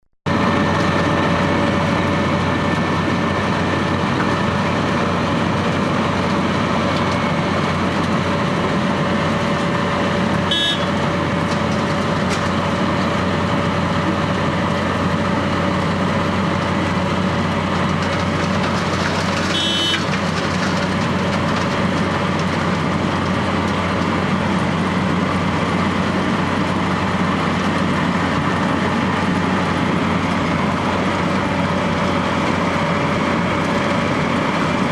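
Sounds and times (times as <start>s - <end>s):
milling machine grinding asphalt: 0.3s - 34.9s.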